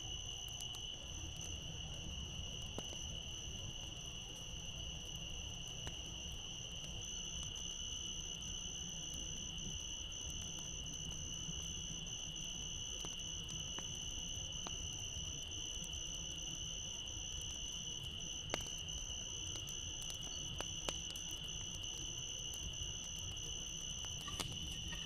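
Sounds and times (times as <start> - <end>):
campfire wood popping and crackling: 0.0 - 25.0
crickets trilling: 0.0 - 25.0.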